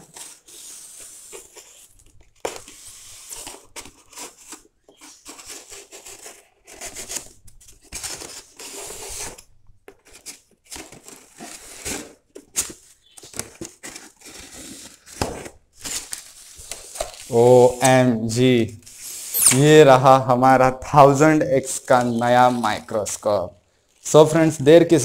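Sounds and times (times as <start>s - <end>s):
styrofoam tearing and scraping: 0.0s - 18.0s, 18.8s - 19.9s, 21.0s - 23.4s.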